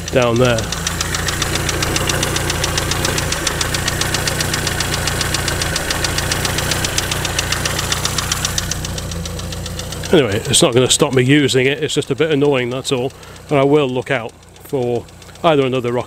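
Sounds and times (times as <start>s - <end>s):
car engine idling with tapping: 0.0s - 16.0s.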